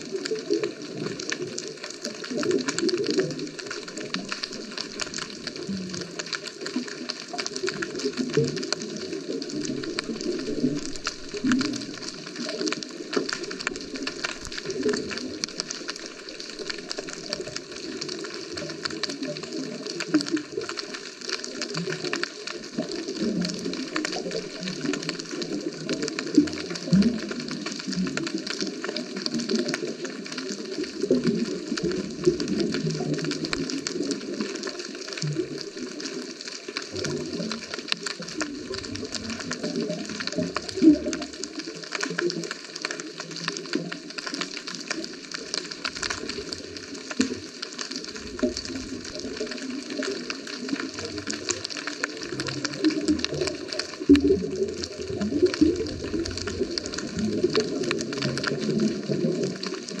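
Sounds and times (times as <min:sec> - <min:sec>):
water rushing and bubbling underwater: 0:00.0 - 1:00.0.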